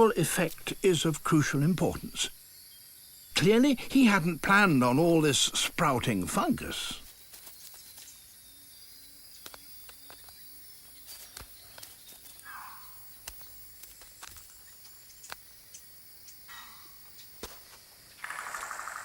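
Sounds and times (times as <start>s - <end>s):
high insect drone: 0.0s - 6.2s, 7.1s - 19.0s.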